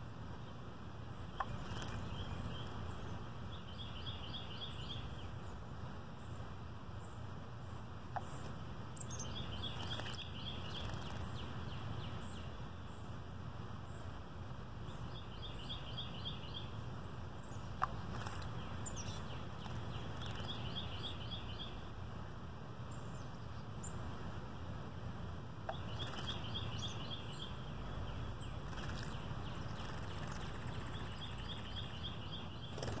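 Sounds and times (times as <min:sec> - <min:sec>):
songbird singing: 0:00.0 - 0:33.0.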